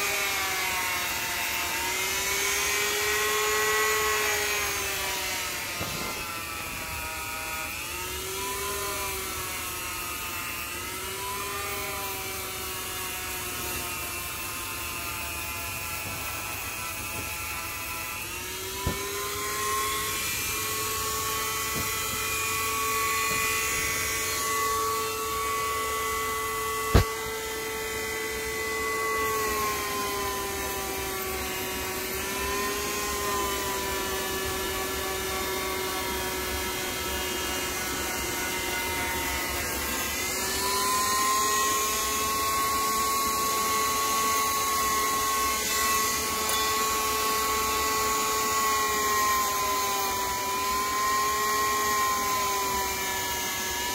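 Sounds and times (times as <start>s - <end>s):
power tool motor whining: 0.0s - 53.9s.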